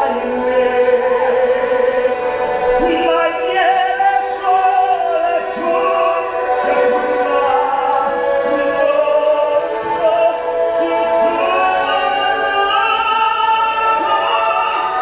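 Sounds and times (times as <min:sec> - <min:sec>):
man singing operatically: 0:00.0 - 0:15.0.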